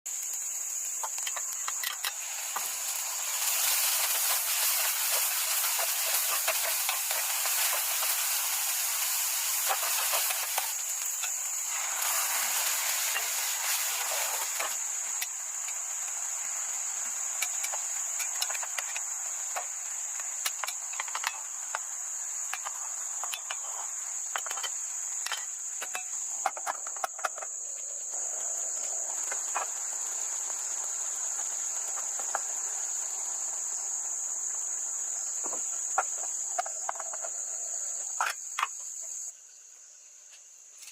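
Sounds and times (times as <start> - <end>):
food sizzling in a hot pan: 0.1 - 39.3
crickets trilling: 0.1 - 40.9.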